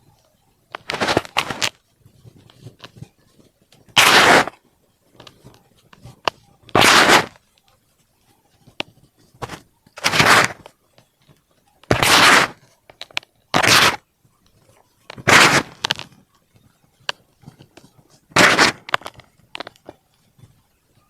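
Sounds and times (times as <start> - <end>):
crumbling powder crackles: 0.7 - 21.0.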